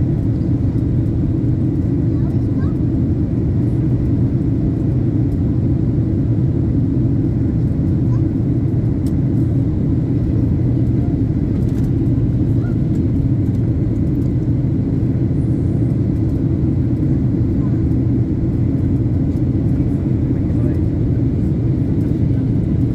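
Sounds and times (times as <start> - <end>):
airliner cabin engine rumble: 0.0 - 22.9.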